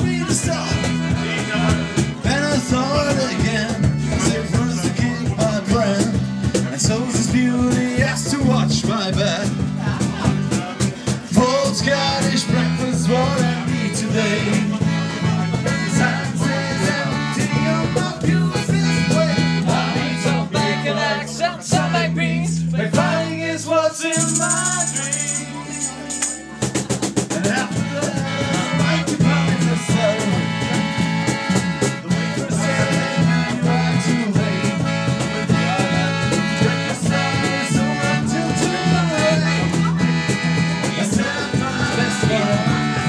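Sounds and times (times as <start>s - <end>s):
accordion: 0.0s - 43.0s
bass guitar: 0.0s - 43.0s
strummed acoustic guitar: 0.0s - 43.0s.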